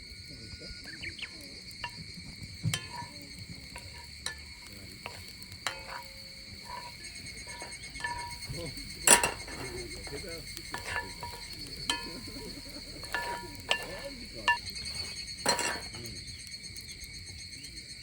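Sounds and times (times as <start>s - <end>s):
insects chorus: 0.0s - 18.0s
sharp metallic clinks and knocks: 1.7s - 16.8s.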